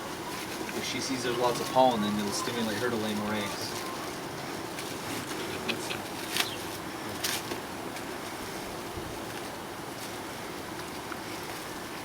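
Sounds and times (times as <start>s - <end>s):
honeybees humming: 0.0s - 12.0s
outdoor noise: 0.0s - 12.0s
sharp rustle: 0.0s - 12.0s.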